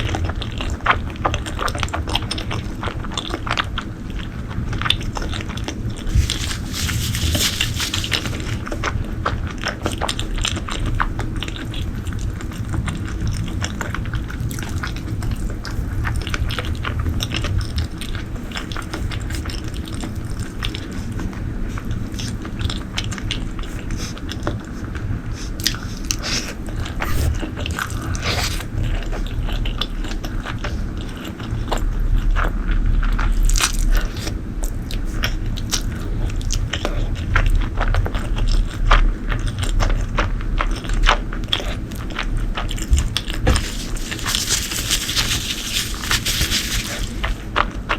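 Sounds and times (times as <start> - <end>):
person chewing food: 0.0 - 47.9
crunching and wet mouth clicks: 7.9 - 47.9.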